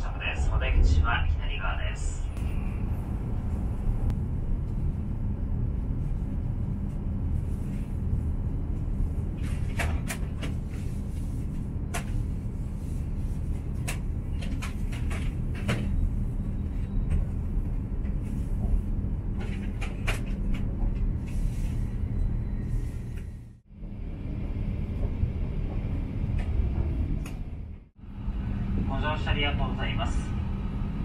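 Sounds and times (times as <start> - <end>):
train cabin rumble: 0.0 - 31.0.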